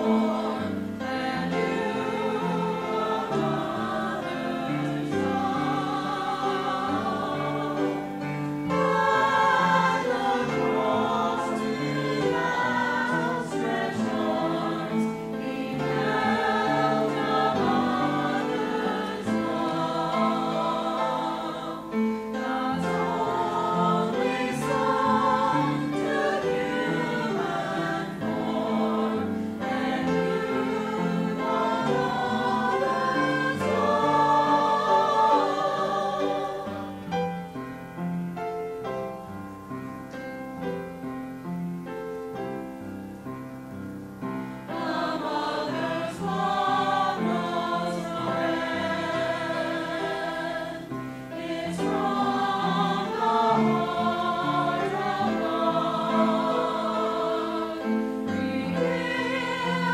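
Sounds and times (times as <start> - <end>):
choir singing: 0.0 - 38.0, 44.4 - 59.9.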